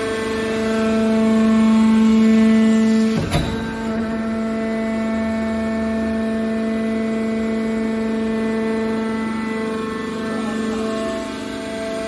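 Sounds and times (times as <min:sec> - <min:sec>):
hydraulic motor humming: 0:00.0 - 0:12.0.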